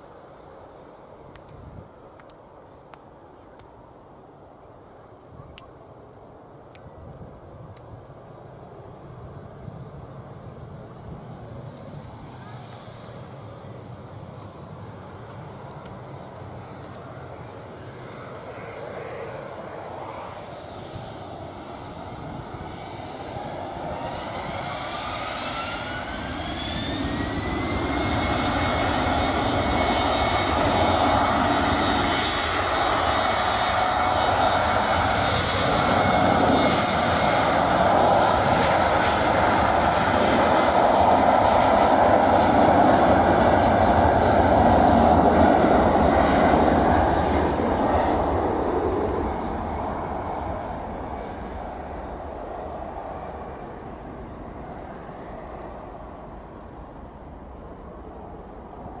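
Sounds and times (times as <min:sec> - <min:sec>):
jet engine roar: 0:00.0 - 0:59.0
jet engines whining: 0:08.2 - 0:59.0.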